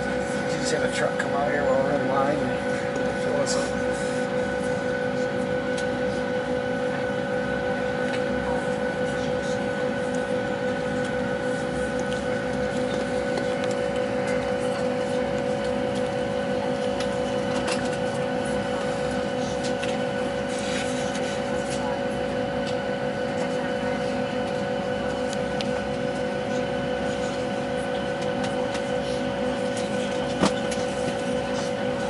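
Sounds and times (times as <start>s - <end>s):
airliner cabin drone: 0.0s - 32.0s.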